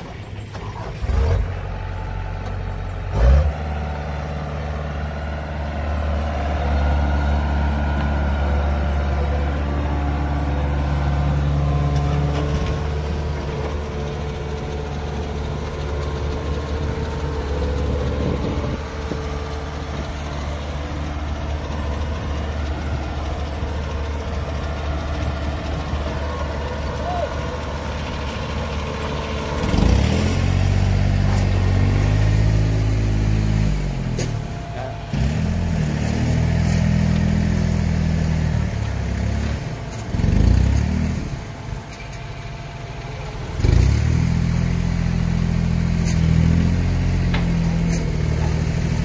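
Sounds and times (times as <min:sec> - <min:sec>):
combine harvester diesel engine: 0:00.0 - 0:49.0.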